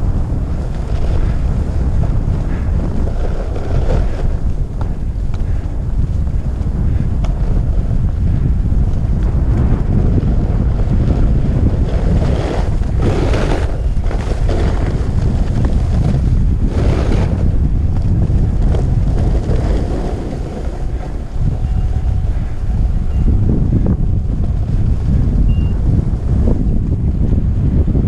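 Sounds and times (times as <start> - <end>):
skis scraping over snow: 0.0 - 28.0
wind buffeting microphone: 0.0 - 28.0.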